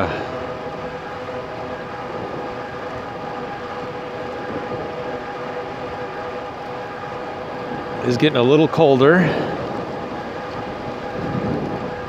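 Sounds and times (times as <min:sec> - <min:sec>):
electric hub motor whine: 0:00.0 - 0:12.0
tyres rumbling on road: 0:00.0 - 0:12.0.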